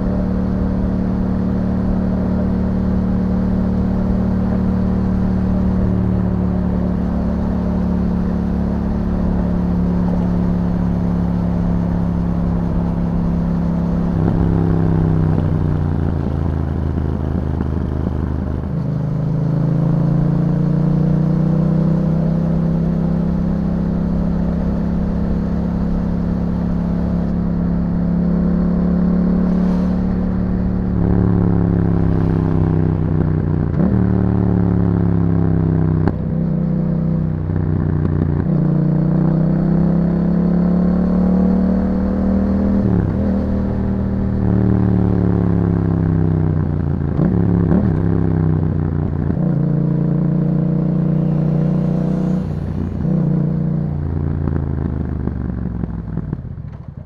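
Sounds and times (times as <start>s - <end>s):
motorcycle engine while riding: 0.0s - 57.0s.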